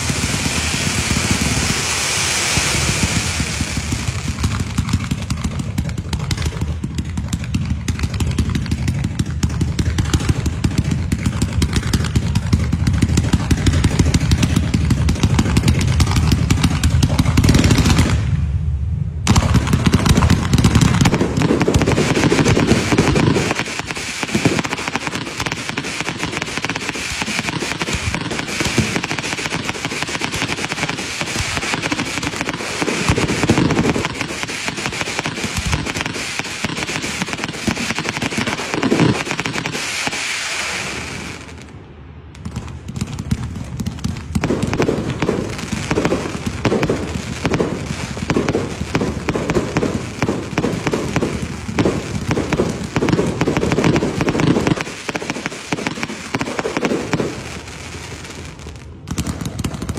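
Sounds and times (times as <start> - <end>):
fireworks crackling and banging: 0.0 - 59.9.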